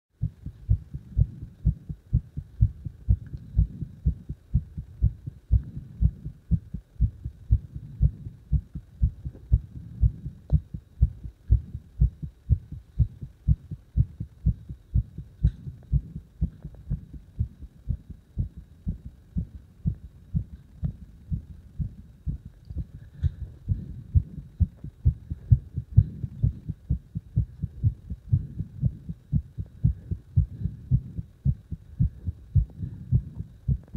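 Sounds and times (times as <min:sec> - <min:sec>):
heart beating: 0:00.2 - 0:33.9.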